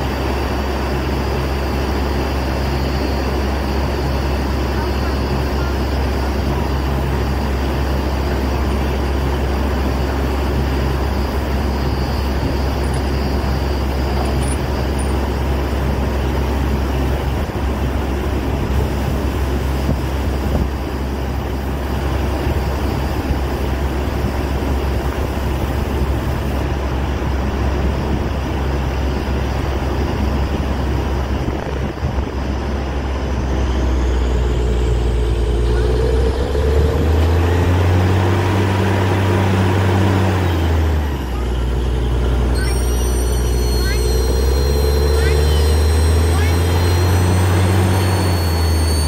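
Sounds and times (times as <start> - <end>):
continuous rushing hiss: 0.0 - 49.0
drilling rig engine drone: 0.0 - 49.0.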